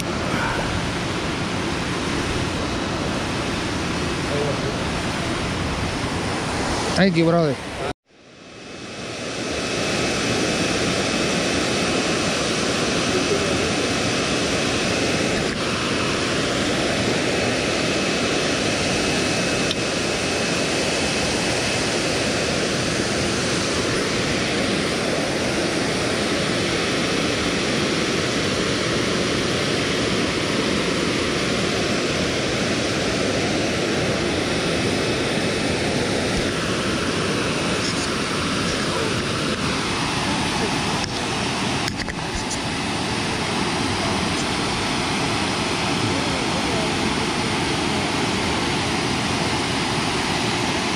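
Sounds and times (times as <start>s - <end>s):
water rushing over dam spillway: 0.0s - 50.9s.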